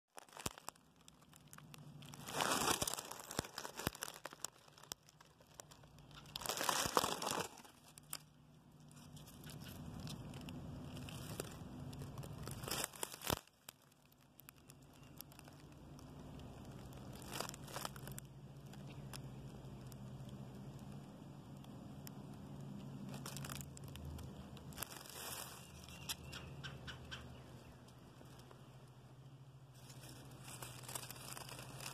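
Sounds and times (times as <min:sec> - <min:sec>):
dry leaves and grass crunching: 0:00.1 - 0:31.9
small crackles: 0:00.1 - 0:31.9
faint low hum: 0:00.4 - 0:31.9.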